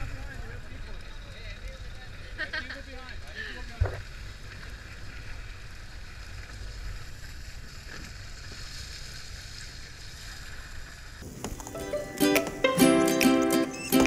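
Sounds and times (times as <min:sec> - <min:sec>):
water rushing along boat hulls: 0:00.0 - 0:14.0.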